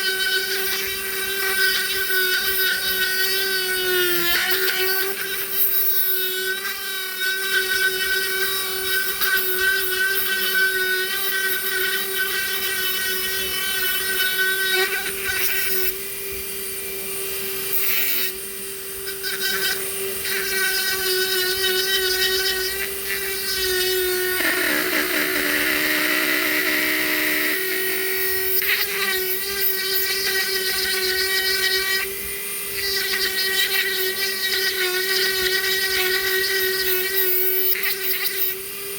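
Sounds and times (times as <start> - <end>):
rotary tool carving wood: 0.0 - 38.9.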